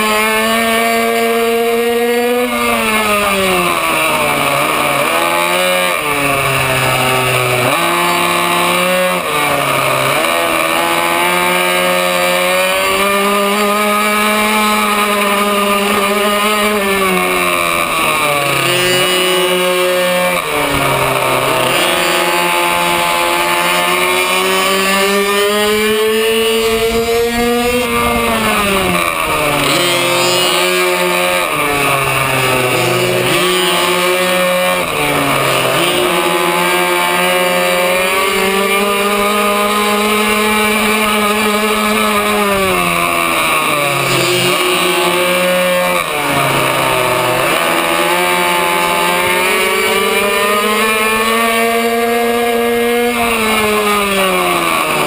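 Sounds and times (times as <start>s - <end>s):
minibike engine revving: 0.0s - 55.0s.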